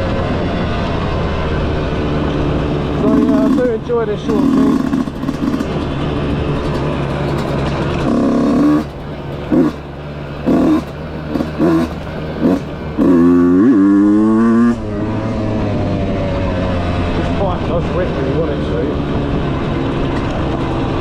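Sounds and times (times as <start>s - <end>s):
dirt bike engine revving: 1.6s - 21.0s.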